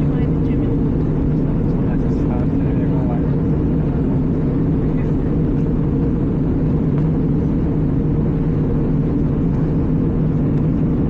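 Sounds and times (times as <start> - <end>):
airplane cabin engine roar: 0.0 - 11.0.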